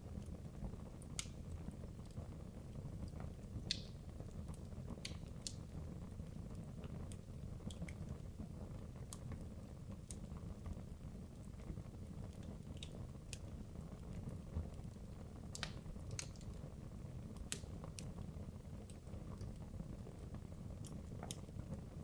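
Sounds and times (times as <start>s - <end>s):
fire crackles and pops: 0.0s - 22.0s
low rumble of flame: 0.0s - 22.0s.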